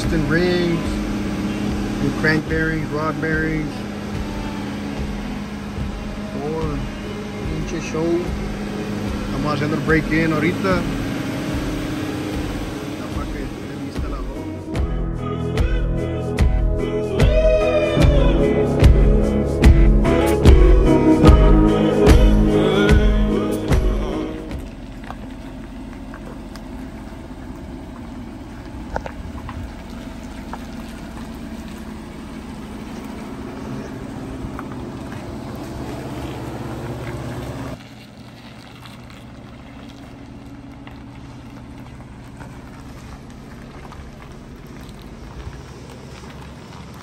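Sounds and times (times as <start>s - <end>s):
car engine running steadily: 0.0s - 47.0s.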